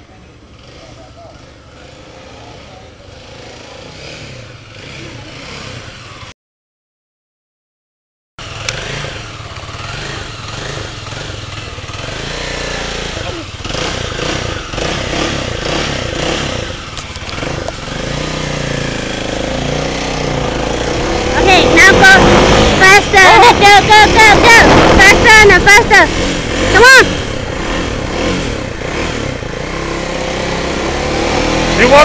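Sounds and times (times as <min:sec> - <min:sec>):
motorcycle engine running: 0:00.0 - 0:06.3, 0:08.4 - 0:32.0
road noise: 0:00.0 - 0:06.3, 0:08.4 - 0:32.0.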